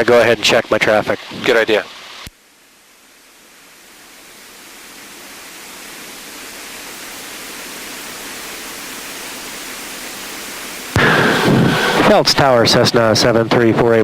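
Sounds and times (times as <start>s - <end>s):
electronic radio hiss: 0.0s - 14.0s.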